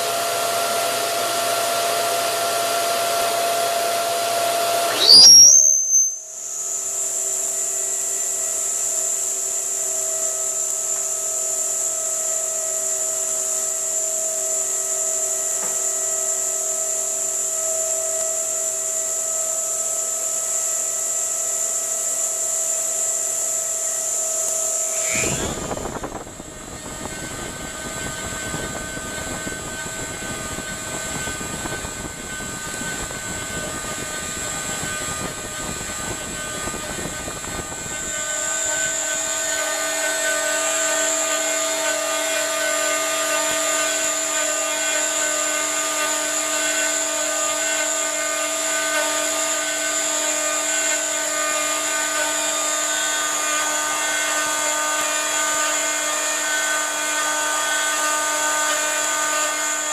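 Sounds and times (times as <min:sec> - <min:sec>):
router spindle whine: 0:00.0 - 0:59.9.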